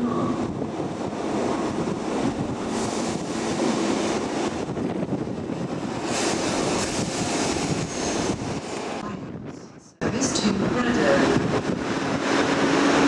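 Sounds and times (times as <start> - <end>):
train rumbling slowly on rails: 0.0 - 13.0.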